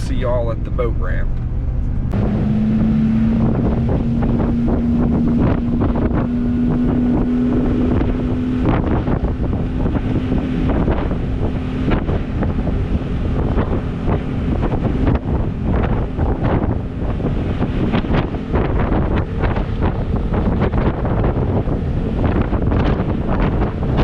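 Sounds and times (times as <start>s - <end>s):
outboard engine running: 0.0s - 24.0s
wind buffeting microphone: 0.0s - 24.0s.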